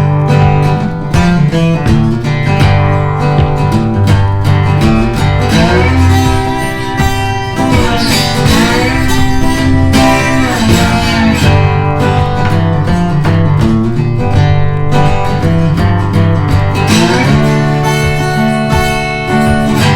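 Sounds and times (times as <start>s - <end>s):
bass line: 0.0s - 19.9s
country acoustic guitar music: 0.0s - 19.9s.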